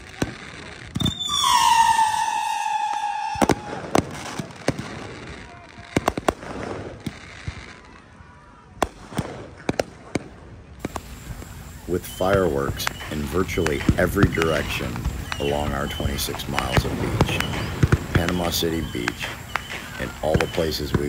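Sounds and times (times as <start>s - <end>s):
firework shells bursting: 0.0s - 7.4s, 8.8s - 21.0s
whistling firework: 0.0s - 21.0s.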